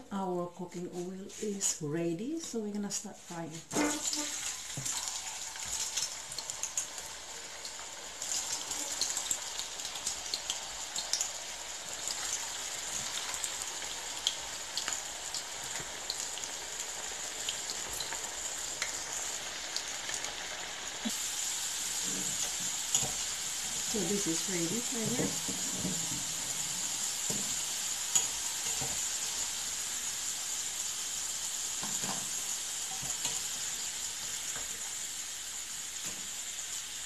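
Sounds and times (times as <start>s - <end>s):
potatoes sizzling in hot oil: 2.4s - 37.0s.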